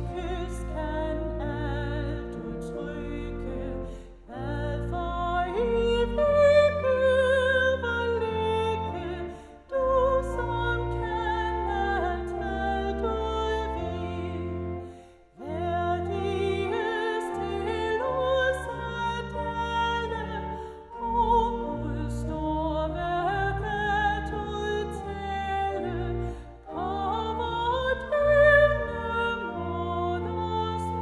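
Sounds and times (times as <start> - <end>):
pipe organ chords: 0.0 - 31.0
woman singing a hymn: 0.0 - 31.0.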